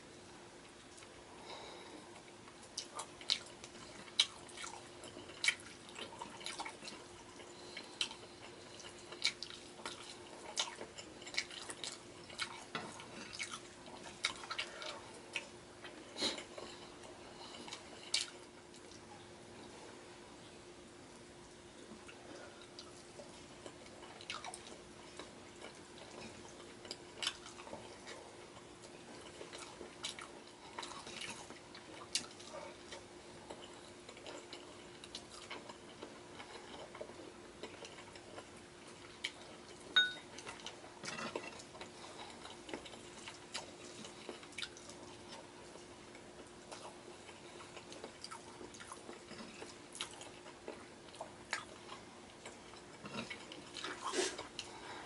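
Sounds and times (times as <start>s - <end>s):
faint hum: 0.0s - 55.0s
chewing with wet lip smacks: 2.2s - 19.2s, 21.4s - 54.8s.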